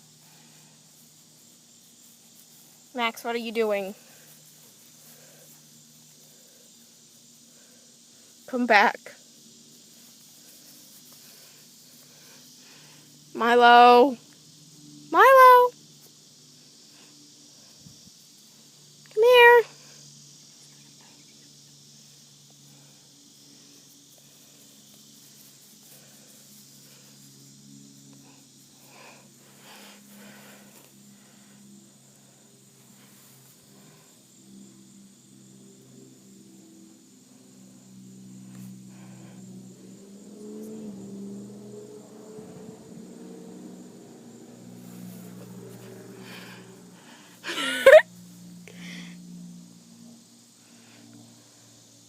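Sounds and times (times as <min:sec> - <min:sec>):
low hum with hiss: 0:00.0 - 0:52.0.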